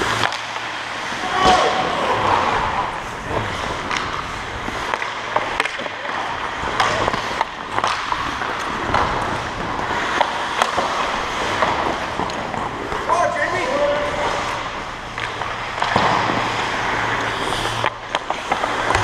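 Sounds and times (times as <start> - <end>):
hockey sticks and puck clacking: 0.0 - 19.0
skates scraping on ice: 0.0 - 19.0.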